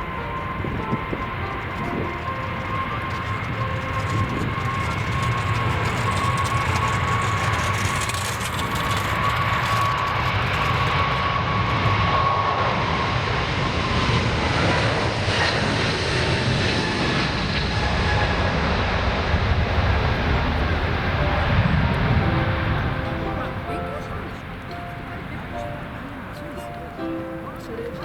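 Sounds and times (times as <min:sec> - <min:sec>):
jet engines passing: 0:00.0 - 0:28.0.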